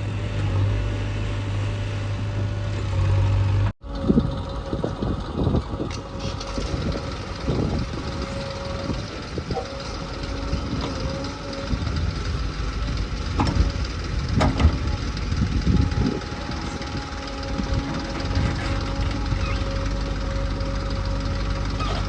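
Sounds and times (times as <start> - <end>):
diesel engine running: 0.0 - 22.0
held whine: 0.0 - 22.0.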